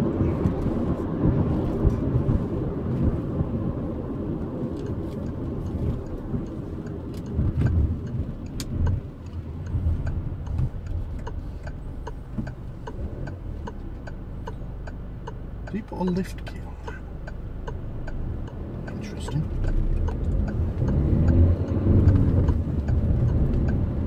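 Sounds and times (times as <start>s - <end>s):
car road and engine rumble: 0.0s - 24.0s
turn indicator ticking: 0.0s - 24.0s.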